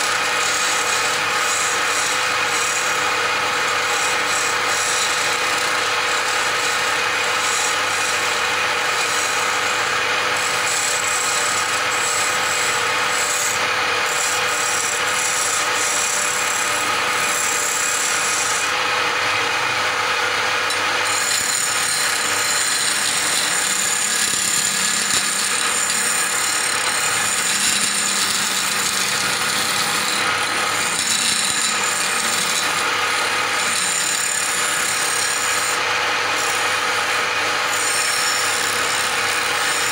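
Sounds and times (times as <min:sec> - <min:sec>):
chisel scraping spinning wood: 0:00.0 - 0:39.9
lathe motor hum: 0:00.0 - 0:39.9.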